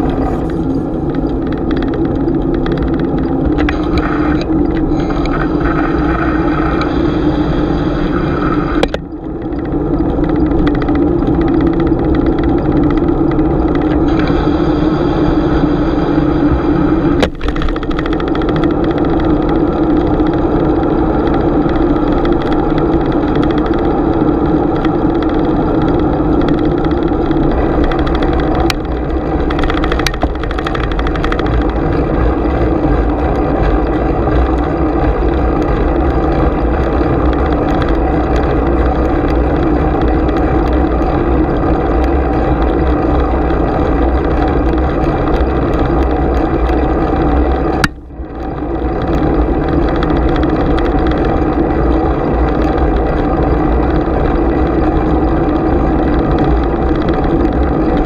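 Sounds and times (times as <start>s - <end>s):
low hum: 0.0s - 58.0s
wind and tyre noise: 0.0s - 58.0s.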